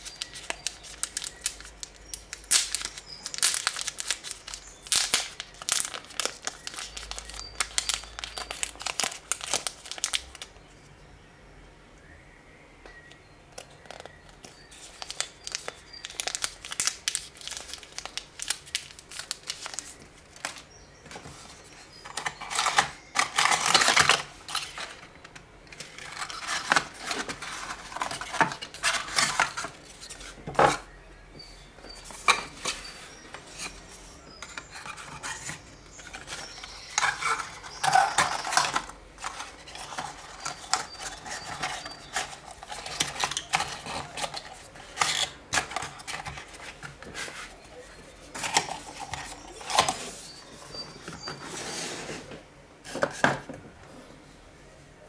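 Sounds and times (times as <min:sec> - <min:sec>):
wrapping crinkling: 0:00.0 - 0:10.5, 0:13.8 - 0:25.1, 0:25.8 - 0:30.7, 0:32.1 - 0:51.2.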